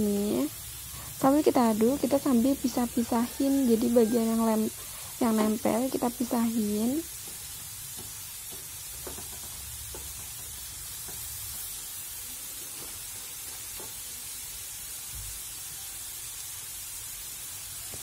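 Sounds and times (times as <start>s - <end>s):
fries sizzling in hot oil: 0.0s - 18.0s.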